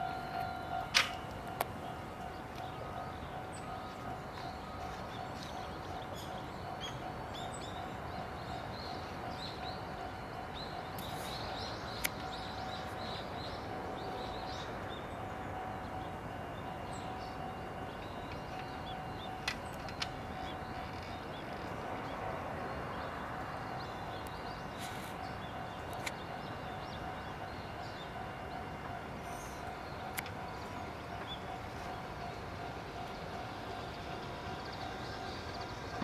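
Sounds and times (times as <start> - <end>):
faint steady tone: 0.0 - 36.0.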